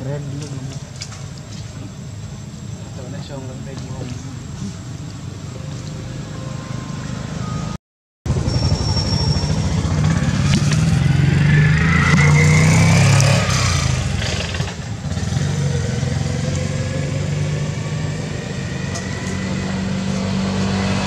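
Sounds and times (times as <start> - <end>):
motor vehicle engine running: 0.0 - 21.0.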